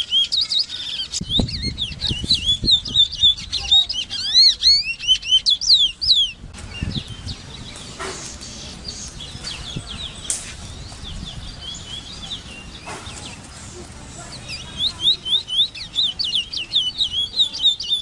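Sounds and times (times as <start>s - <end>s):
finch singing whistled notes: 0.0s - 18.0s.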